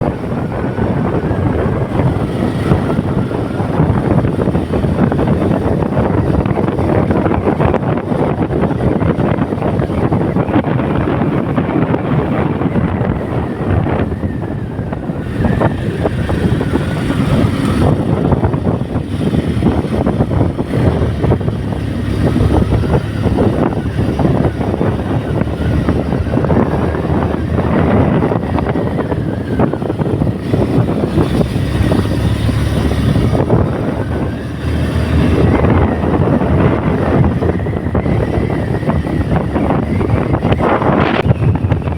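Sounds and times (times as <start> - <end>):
vehicle engine and road noise: 0.0 - 41.9
wind buffeting microphone: 0.0 - 41.9.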